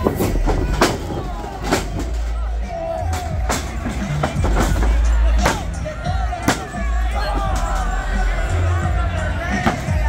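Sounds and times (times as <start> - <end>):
faint voices: 0.0 - 10.0
loud music with heavy bass: 0.0 - 10.0.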